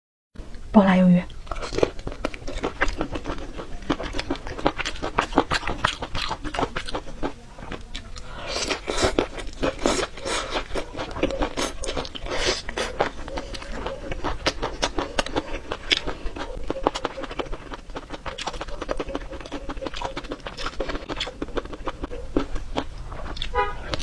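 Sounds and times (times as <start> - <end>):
person chewing crunchy food: 1.3 - 24.0.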